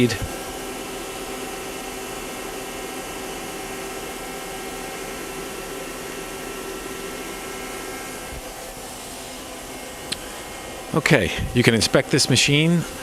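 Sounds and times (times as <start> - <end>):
lathe machine humming: 0.0 - 13.0.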